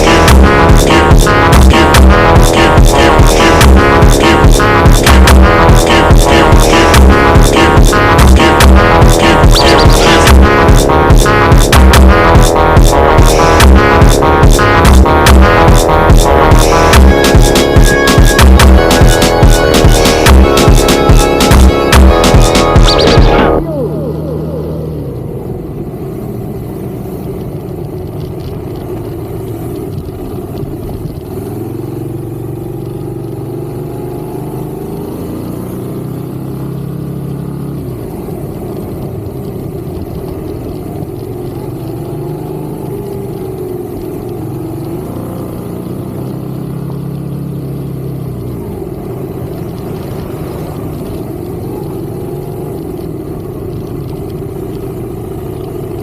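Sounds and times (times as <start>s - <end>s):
vehicle engine while driving: 0.0s - 56.0s.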